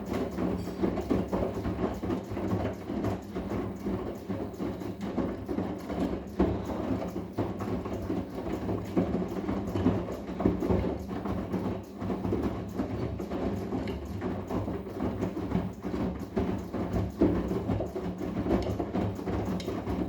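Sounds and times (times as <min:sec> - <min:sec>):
laundry knocking and sloshing in drum: 0:00.0 - 0:20.0.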